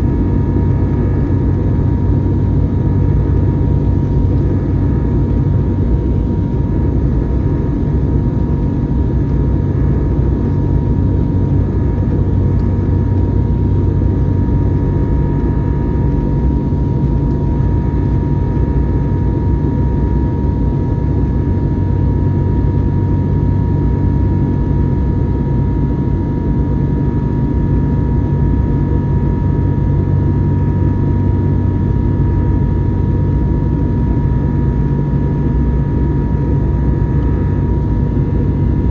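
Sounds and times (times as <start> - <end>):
engine whine: 0.0 - 38.9
jet engine rumble in cabin: 0.0 - 38.9.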